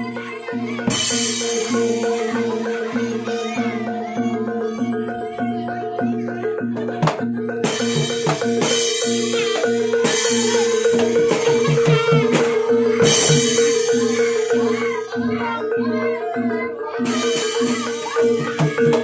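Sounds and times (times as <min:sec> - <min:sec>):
drums: 0:00.0 - 0:19.0
mallet-struck metallophones: 0:00.0 - 0:19.0
steady held tone: 0:00.0 - 0:19.0.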